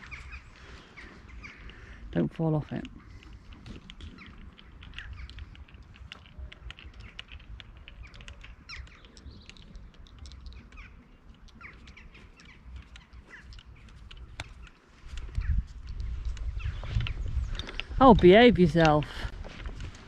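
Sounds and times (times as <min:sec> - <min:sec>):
small birds chirping: 0:00.0 - 0:20.0
wind rumbling on microphone: 0:00.0 - 0:20.0.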